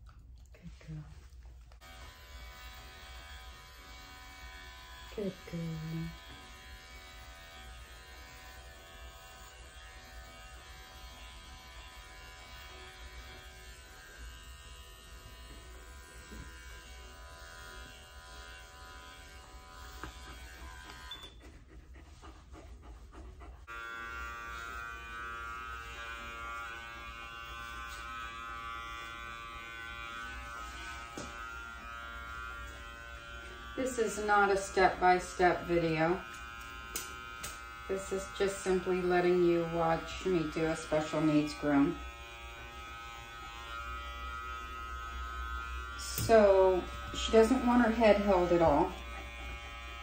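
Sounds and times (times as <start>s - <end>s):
electric dog clipper running: 1.8s - 21.7s, 23.6s - 50.0s.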